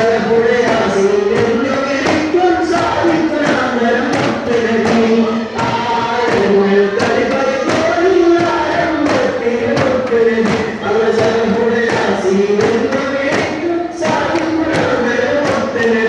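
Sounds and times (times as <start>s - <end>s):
frame drums beating: 0.0s - 16.0s
group singing in chorus: 0.0s - 16.0s.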